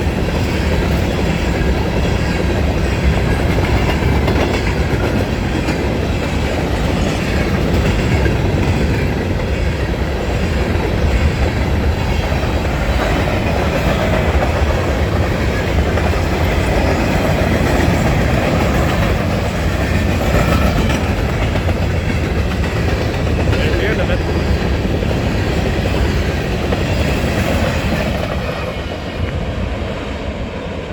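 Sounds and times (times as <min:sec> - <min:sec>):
freight train wheels on rails: 0:00.0 - 0:30.9.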